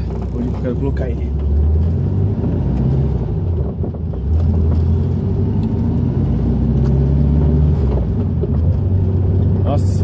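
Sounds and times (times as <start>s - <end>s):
car engine running in cabin: 0.0s - 10.0s.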